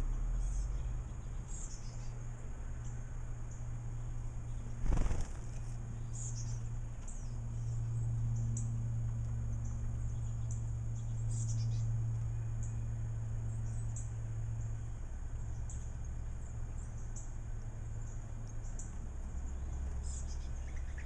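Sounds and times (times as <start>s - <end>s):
low hum: 0.0s - 21.0s
small birds chirping: 0.0s - 21.0s.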